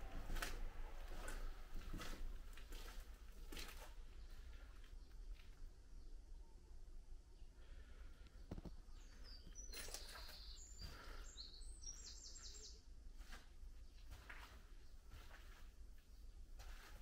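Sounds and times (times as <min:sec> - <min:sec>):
faint birdsong chirps and trills: 0:00.0 - 0:17.0.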